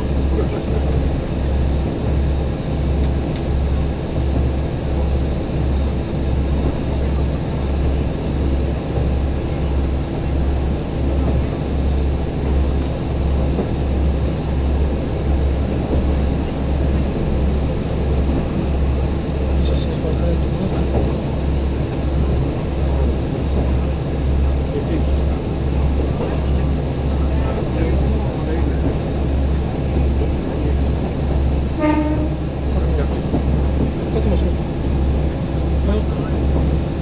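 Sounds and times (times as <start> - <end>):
diesel engine drone: 0.0 - 37.0.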